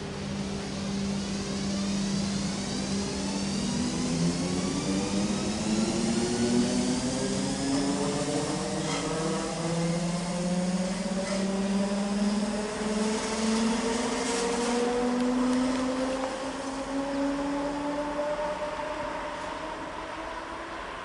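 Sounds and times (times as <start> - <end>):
wheels rolling on rail: 0.0 - 20.6
train traction motors humming: 0.0 - 21.0.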